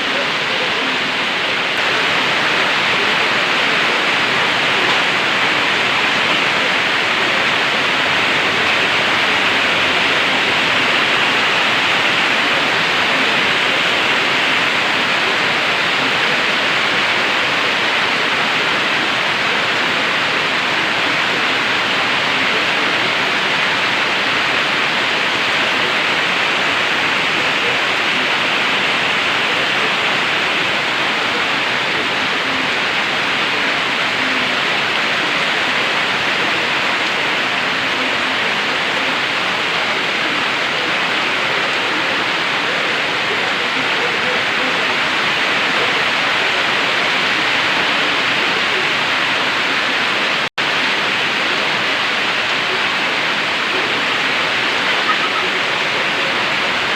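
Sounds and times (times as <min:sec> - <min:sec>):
heavy rain downpour: 0:00.0 - 0:56.9.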